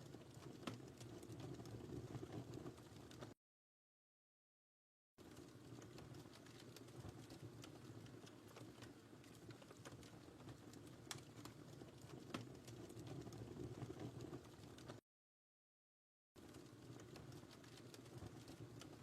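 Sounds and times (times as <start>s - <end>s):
fire pops and snaps: 0.0s - 3.4s, 5.2s - 15.0s, 16.4s - 19.0s
wood fire crackling: 0.0s - 3.4s, 5.2s - 15.0s, 16.4s - 19.0s.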